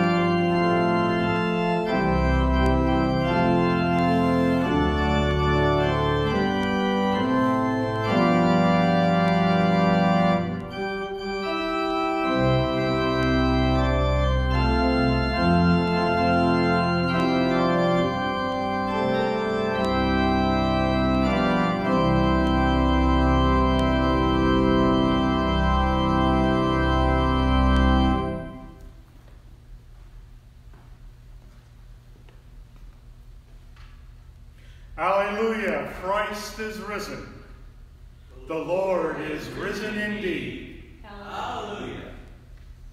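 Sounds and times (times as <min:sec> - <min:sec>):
organ playing slow chords: 0:00.0 - 0:29.2, 0:34.0 - 0:41.0.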